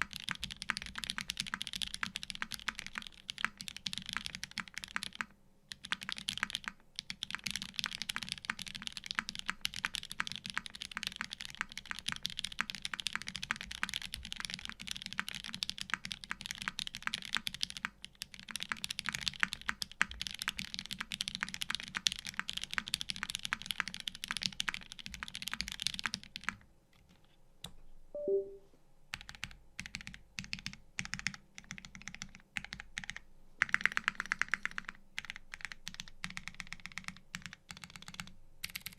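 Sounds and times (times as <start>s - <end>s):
fast mechanical keyboard typing: 0.0s - 26.6s, 29.1s - 38.9s.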